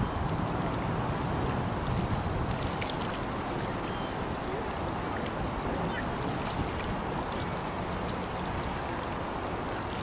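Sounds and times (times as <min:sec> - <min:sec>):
small waves lapping: 0:00.0 - 0:10.0.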